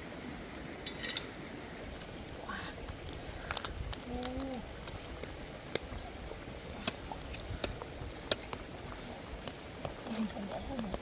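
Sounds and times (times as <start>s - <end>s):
burning wood crackling: 0.0s - 11.0s
soup boiling: 0.9s - 11.0s.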